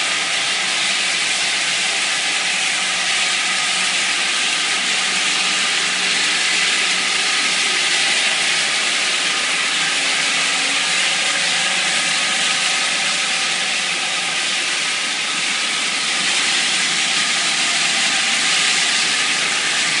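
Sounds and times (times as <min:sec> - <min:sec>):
hot-water spray hissing: 0:00.0 - 0:20.0
vacuum extraction through hose: 0:00.0 - 0:20.0.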